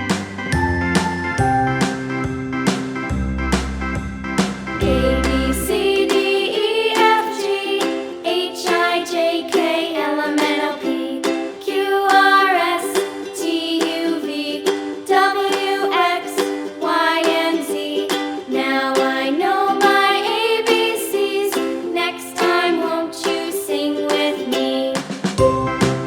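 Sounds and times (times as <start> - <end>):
plucked string music: 0.0 - 26.0.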